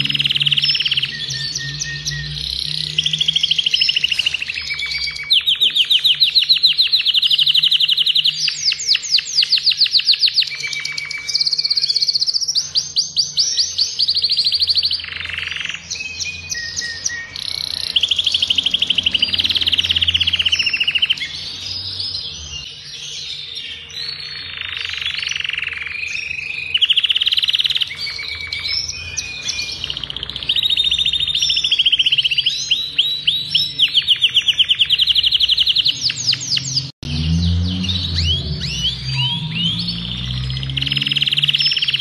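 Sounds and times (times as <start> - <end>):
canary singing trills: 0.0 - 42.0.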